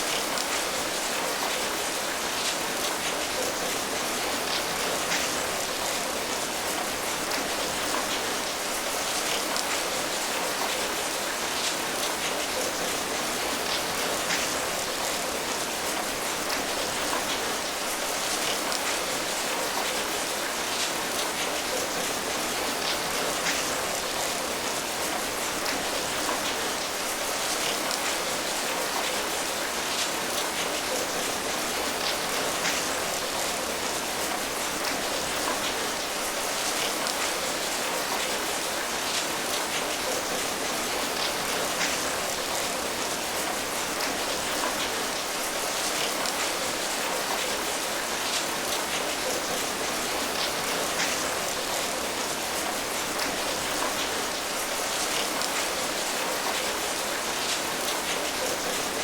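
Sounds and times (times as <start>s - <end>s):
rain falling: 0.0s - 59.0s
raindrops pattering on a surface: 0.0s - 59.0s.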